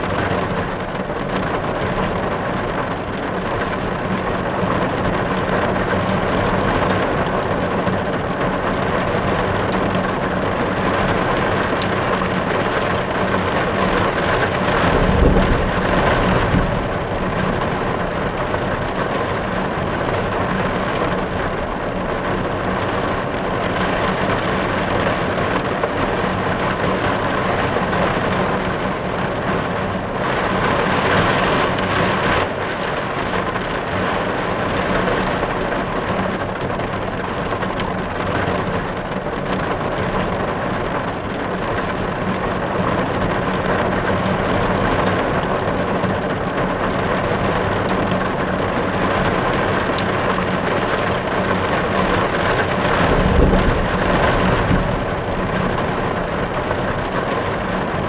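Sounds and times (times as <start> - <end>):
rain on car roof and glass: 0.0 - 58.0.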